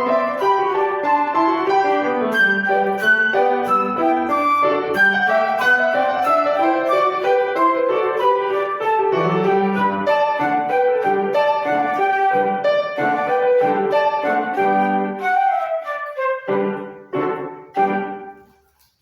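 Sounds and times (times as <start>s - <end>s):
flute melody: 0.0s - 18.8s
piano quick notes: 0.0s - 19.0s.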